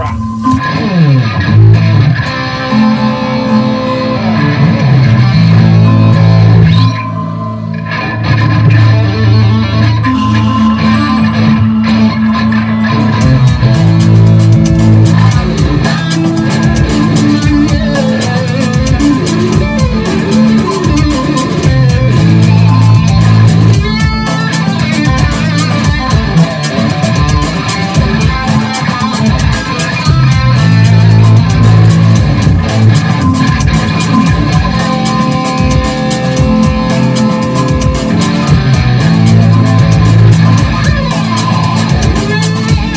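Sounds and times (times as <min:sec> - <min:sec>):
electric guitar with effects: 0:00.0 - 0:42.9
electronic backing track: 0:00.0 - 0:42.9.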